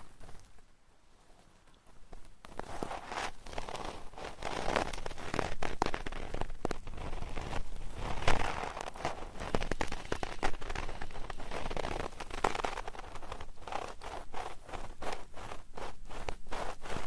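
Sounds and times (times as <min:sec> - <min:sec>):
close crackling and scratching: 0:00.0 - 0:17.0.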